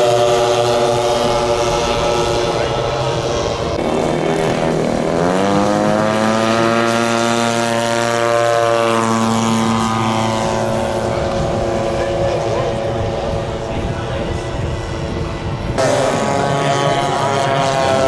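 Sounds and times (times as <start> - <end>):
model airplane engine: 0.0 - 18.0.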